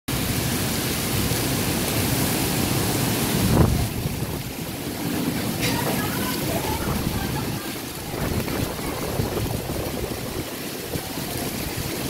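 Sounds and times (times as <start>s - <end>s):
heavy rain pouring: 0.1s - 12.0s
wind gust on microphone: 1.0s - 12.0s.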